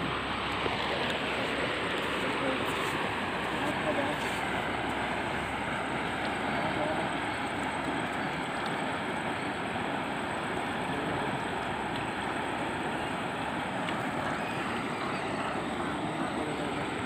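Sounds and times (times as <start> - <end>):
shallow river water rushing: 0.0 - 17.0
wind: 0.0 - 17.0.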